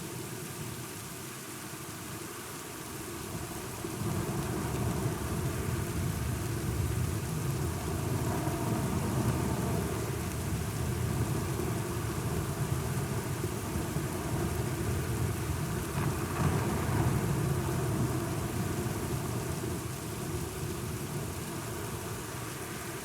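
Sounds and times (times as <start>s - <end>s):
steady rain: 0.0s - 23.0s
low rumble of thunder: 3.4s - 22.2s.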